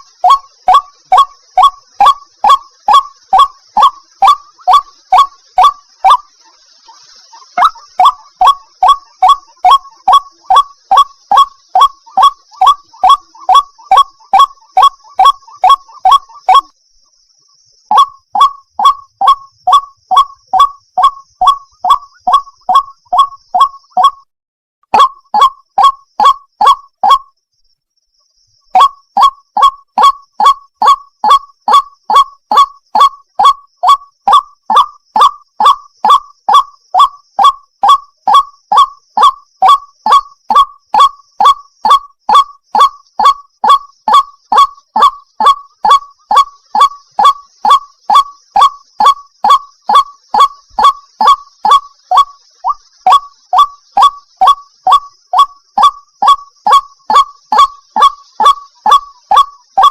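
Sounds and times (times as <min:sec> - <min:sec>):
waterhen calling hoarse notes: 0:00.0 - 0:16.8, 0:17.8 - 0:24.3, 0:24.9 - 0:27.4, 0:28.6 - 0:59.9.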